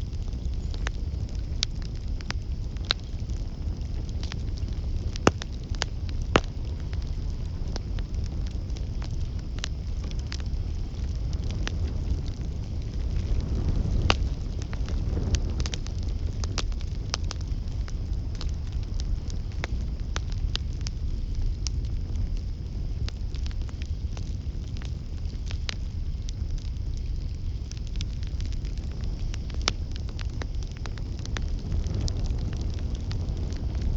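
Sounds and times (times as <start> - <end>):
campfire flames rumbling: 0.0 - 33.9
fire crackling and popping: 0.0 - 33.9.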